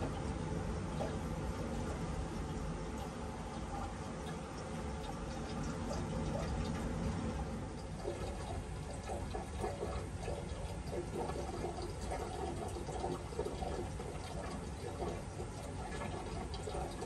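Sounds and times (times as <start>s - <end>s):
water gurgling through hoses: 0.0s - 17.0s.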